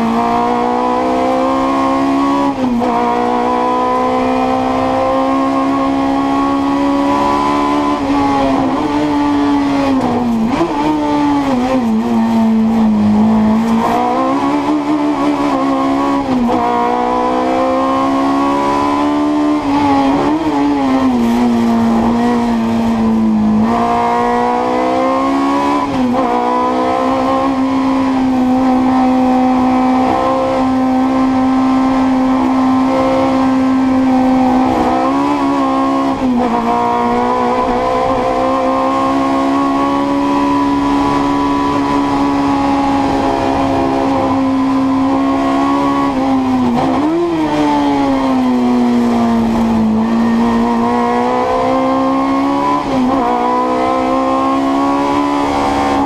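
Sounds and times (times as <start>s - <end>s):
car engine revving through gears: 0.0s - 56.0s.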